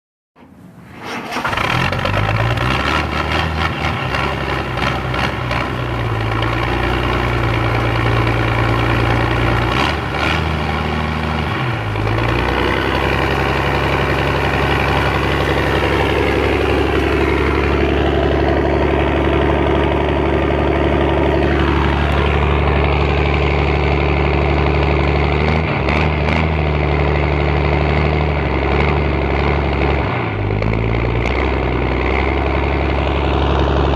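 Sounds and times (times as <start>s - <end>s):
truck engine idling: 0.4s - 33.9s.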